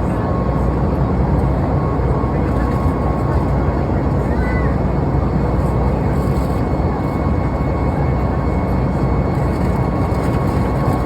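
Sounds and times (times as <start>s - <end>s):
jet engines and airflow drone: 0.0s - 11.0s.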